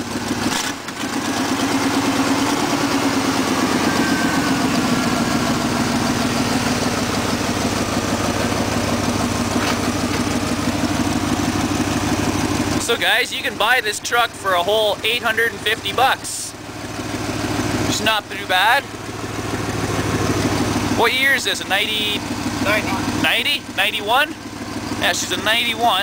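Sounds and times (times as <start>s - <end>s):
pickup truck engine idling: 0.0s - 26.0s.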